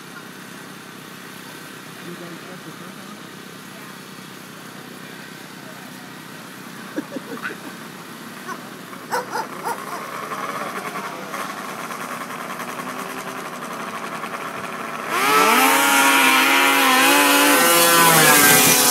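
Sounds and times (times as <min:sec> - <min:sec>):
snowmobile engines revving: 0:02.0 - 0:18.9.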